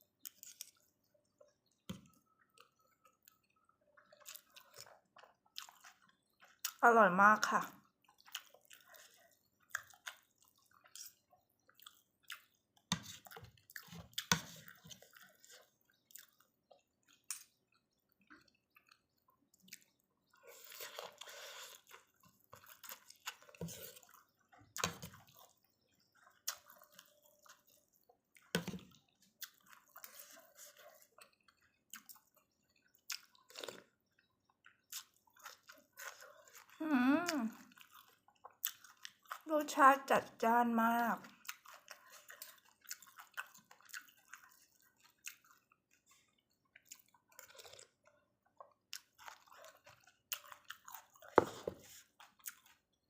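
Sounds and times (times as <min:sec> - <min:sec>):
chewing: 0:00.0 - 0:06.8, 0:07.7 - 0:40.4, 0:41.2 - 0:53.0.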